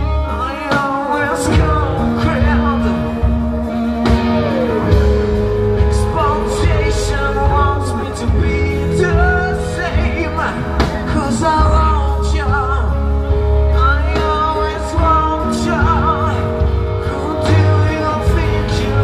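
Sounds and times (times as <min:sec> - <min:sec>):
bass guitar: 0:00.0 - 0:19.0
drums: 0:00.0 - 0:19.0
electric guitars: 0:00.0 - 0:19.0
person singing: 0:00.0 - 0:19.0.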